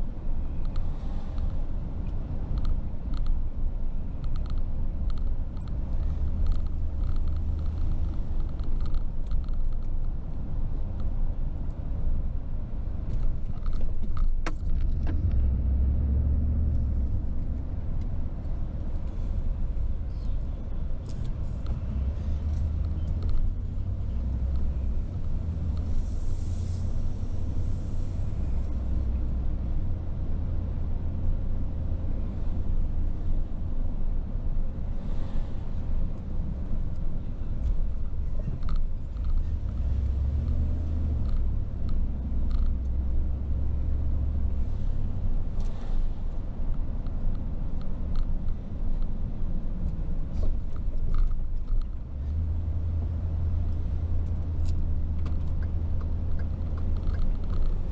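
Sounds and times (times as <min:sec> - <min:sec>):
car engine rumble: 0:00.0 - 0:57.9
road noise: 0:00.0 - 0:57.9
light rattles and ticks: 0:00.5 - 0:11.8, 0:13.0 - 0:15.3, 0:16.7 - 0:29.2, 0:35.0 - 0:43.3, 0:44.1 - 0:57.9.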